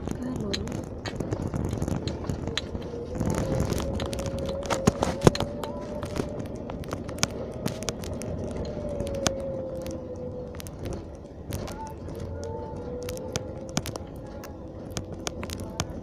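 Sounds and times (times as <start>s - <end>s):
sharp clicks and knocks: 0.0s - 16.0s
steady whine: 0.0s - 16.0s.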